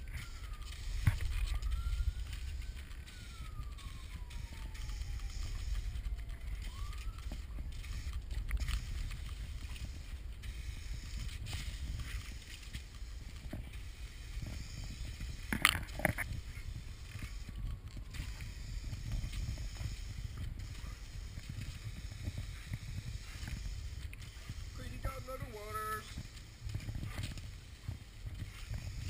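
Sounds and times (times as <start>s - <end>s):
muffled low rumble: 0.0s - 29.0s.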